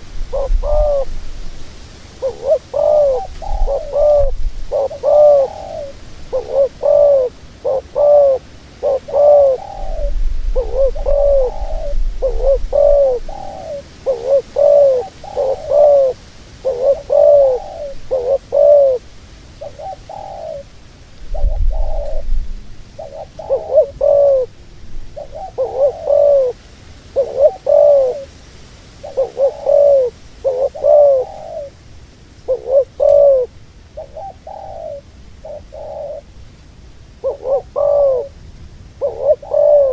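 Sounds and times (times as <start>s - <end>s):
dove cooing: 0.0s - 28.4s, 29.0s - 31.8s, 32.4s - 36.4s, 37.2s - 39.9s.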